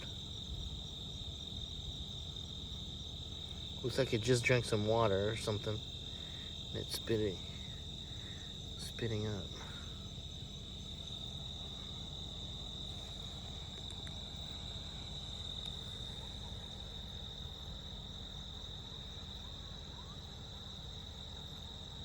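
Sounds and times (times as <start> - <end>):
crickets trilling: 0.0 - 22.0
low steady rumble: 0.0 - 22.0.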